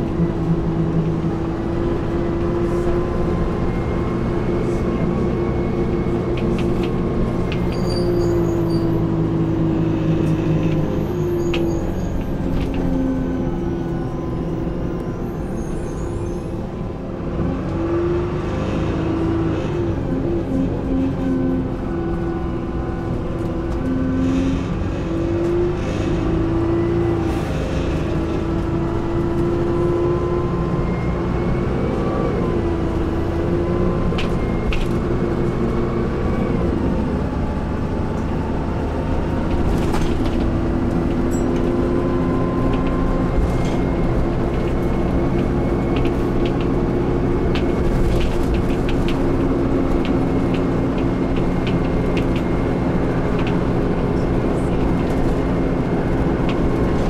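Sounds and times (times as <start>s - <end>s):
bus engine rumbling: 0.0s - 57.0s.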